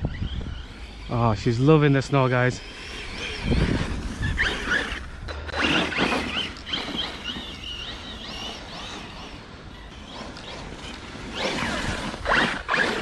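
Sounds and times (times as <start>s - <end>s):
rc truck motor whining: 0.0s - 13.0s
tyres churning through snow: 0.0s - 13.0s.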